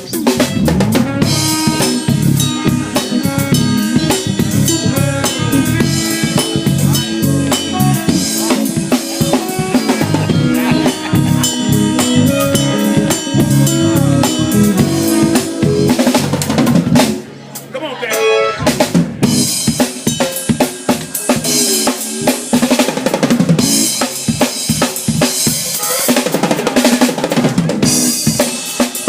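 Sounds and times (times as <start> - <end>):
drum kit hits: 0.0 - 17.3, 18.7 - 29.0
live band playing: 0.0 - 29.0.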